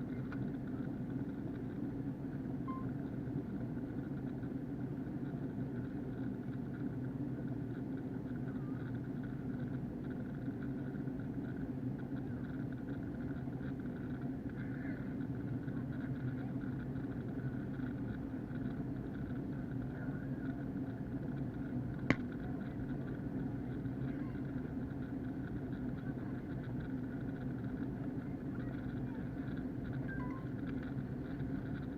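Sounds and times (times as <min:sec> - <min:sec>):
airplane cabin engine drone: 0:00.0 - 0:31.9.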